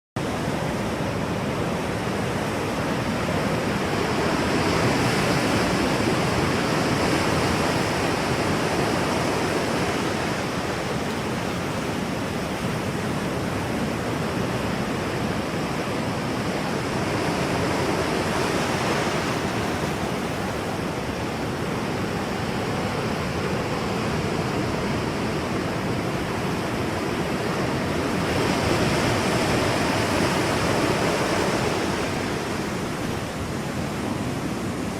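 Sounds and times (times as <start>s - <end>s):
ocean waves rolling in: 0.2s - 34.9s.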